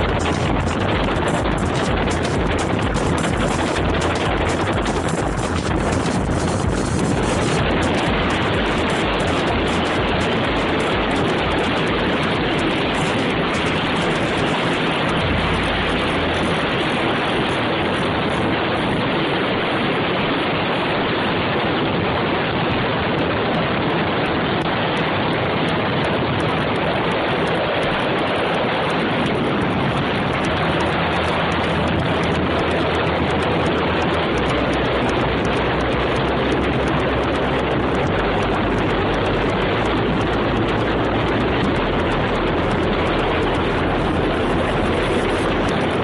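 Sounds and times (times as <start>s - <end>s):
wind and road noise in car: 0.0s - 46.0s.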